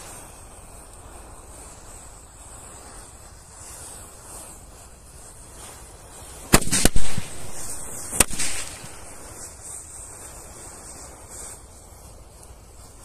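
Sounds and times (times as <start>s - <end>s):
firecrackers banging: 0.0s - 13.0s
match heads flaring with hiss: 0.0s - 13.0s.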